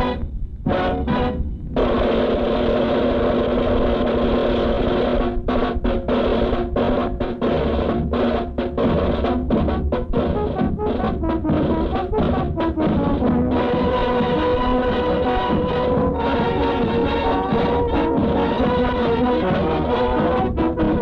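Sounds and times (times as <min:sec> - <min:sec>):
brass band playing: 0:00.0 - 0:21.0
drums and snare: 0:00.0 - 0:21.0.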